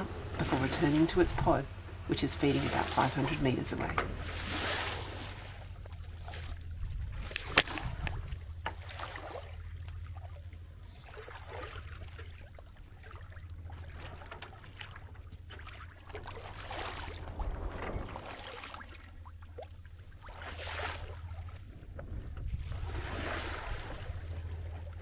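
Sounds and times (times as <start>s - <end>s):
steady low hum: 0.0s - 25.0s
water splashing along hull: 0.0s - 25.0s.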